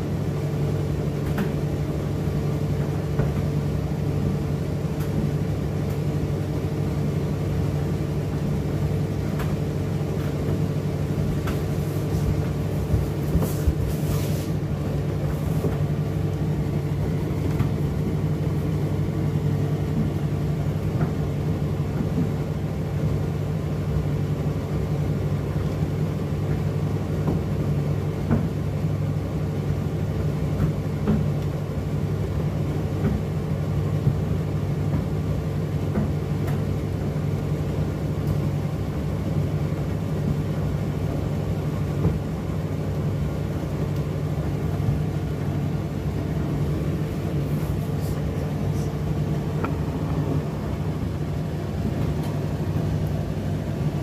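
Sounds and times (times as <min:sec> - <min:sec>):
tumble dryer humming and rumbling: 0:00.0 - 0:54.0.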